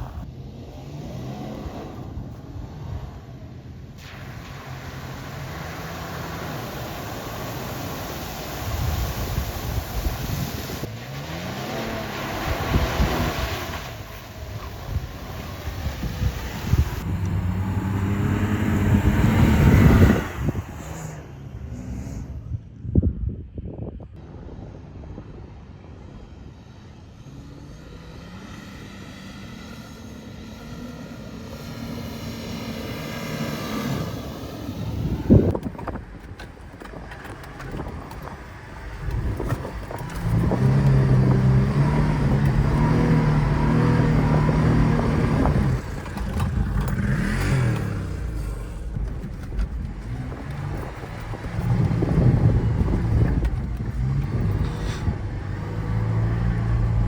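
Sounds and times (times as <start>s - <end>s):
suv engine revving in sand: 0.0s - 22.6s, 26.5s - 36.1s, 37.9s - 57.0s.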